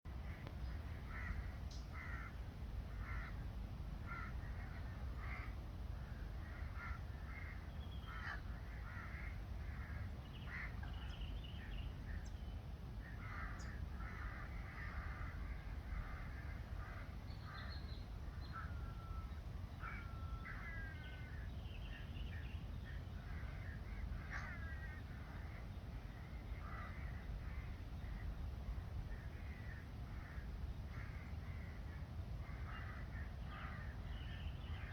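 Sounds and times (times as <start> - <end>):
birds cawing and chattering: 0.1 - 34.9
steady low rumble: 0.1 - 34.9.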